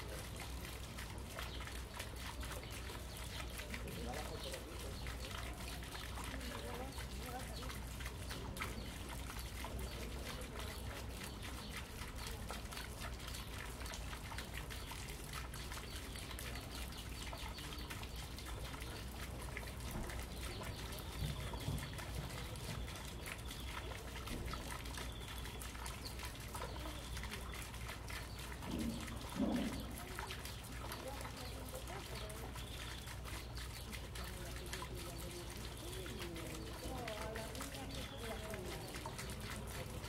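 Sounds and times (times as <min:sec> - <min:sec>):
fountain trickling into pond: 0:00.0 - 0:40.0.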